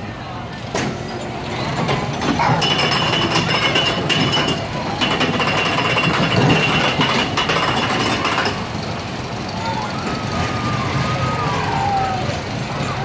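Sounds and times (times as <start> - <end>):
ride train rattling clatter: 0.1 - 13.0.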